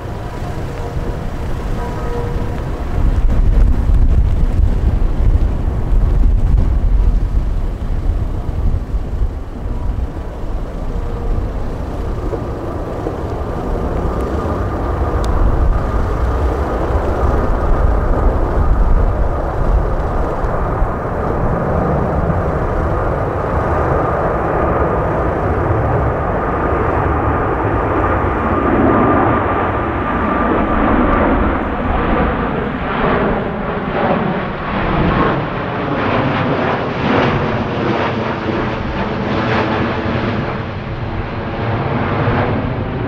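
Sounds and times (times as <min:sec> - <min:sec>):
jet engines running: 0:00.0 - 0:43.0
steady engine whine: 0:00.0 - 0:43.0
wind rumble on microphone: 0:00.0 - 0:43.0.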